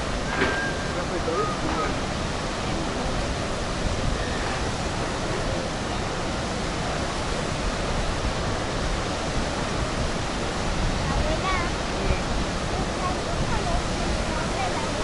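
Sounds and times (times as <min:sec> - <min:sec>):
water rushing over falls: 0:00.0 - 0:15.0.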